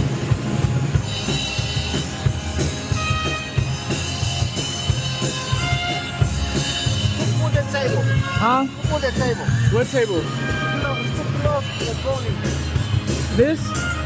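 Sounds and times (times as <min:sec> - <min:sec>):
drum kit beat: 0:00.0 - 0:14.0
held musical tones: 0:00.0 - 0:14.0.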